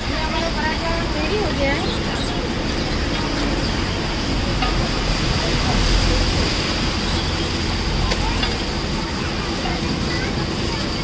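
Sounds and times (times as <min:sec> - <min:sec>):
flatbread sizzling in oil: 0:00.0 - 0:11.0
low rumble of street traffic: 0:00.0 - 0:11.0.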